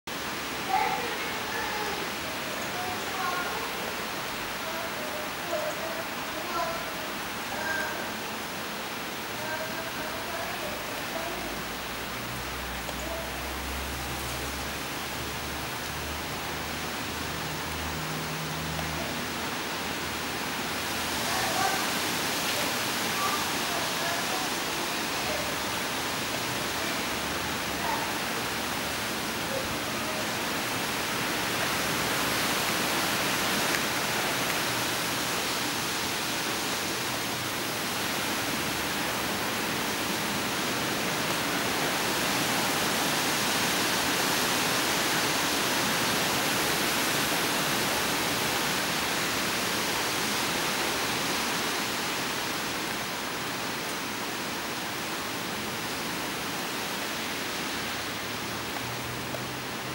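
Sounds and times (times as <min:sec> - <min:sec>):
wet snow falling through trees: 0:00.1 - 0:59.9.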